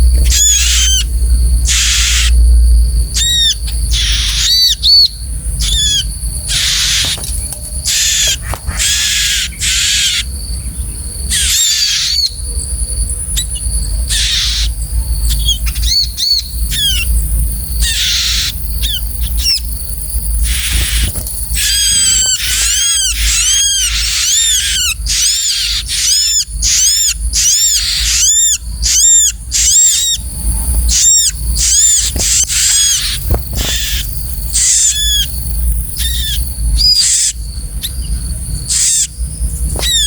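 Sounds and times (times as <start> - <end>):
bird harsh rasping calls: 0.1 - 2.4, 3.2 - 10.4, 11.3 - 12.4, 13.4 - 40.0.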